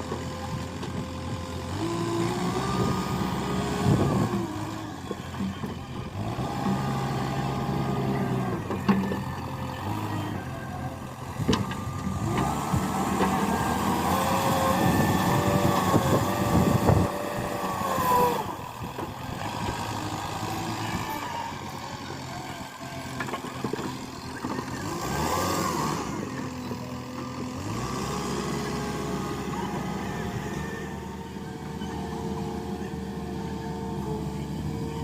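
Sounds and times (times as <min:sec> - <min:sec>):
diesel engine revving: 0:00.0 - 0:35.0.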